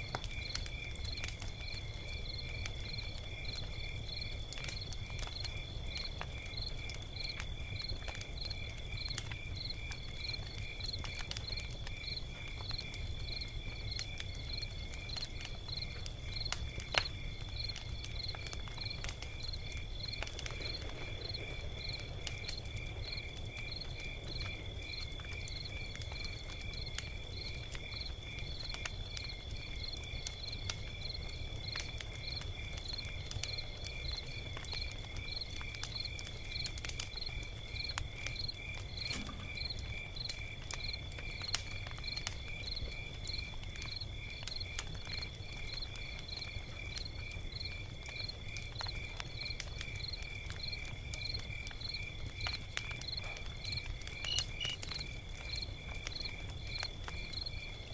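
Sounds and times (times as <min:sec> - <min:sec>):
log fire crackling: 0:00.0 - 0:57.9
insects chirping: 0:00.1 - 0:57.9.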